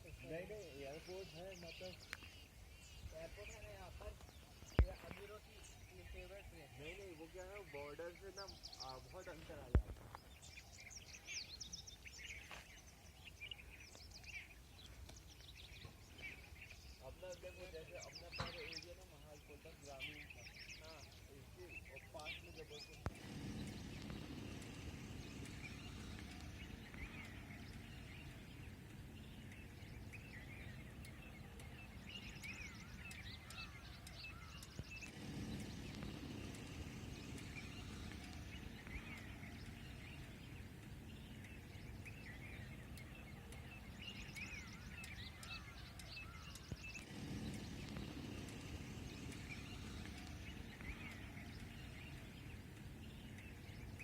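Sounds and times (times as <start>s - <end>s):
low outdoor rumble: 0.0s - 54.0s
small birds chirping: 0.0s - 54.0s.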